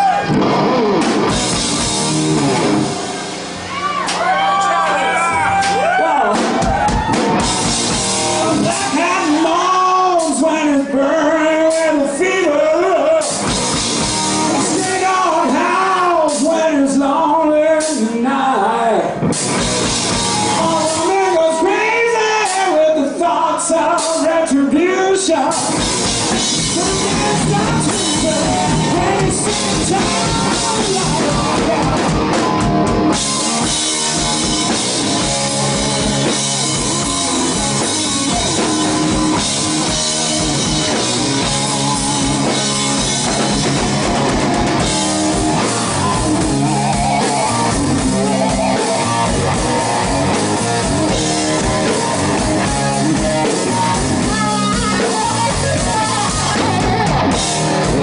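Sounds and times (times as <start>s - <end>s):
drum kit: 0.0s - 10.7s, 11.4s - 18.0s, 19.2s - 22.9s, 25.3s - 58.0s
bass: 0.0s - 58.0s
electric guitars: 0.0s - 58.0s.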